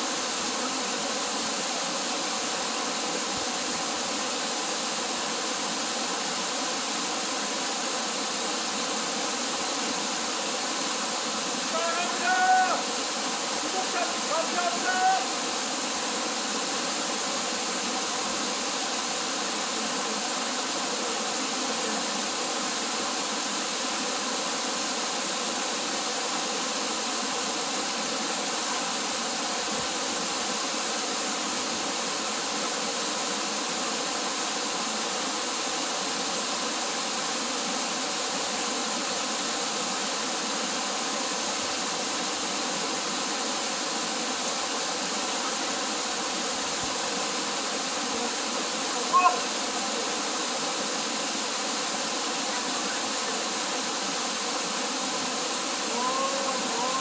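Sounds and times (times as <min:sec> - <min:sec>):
waterfall splashing on rocks: 0:00.0 - 0:57.0.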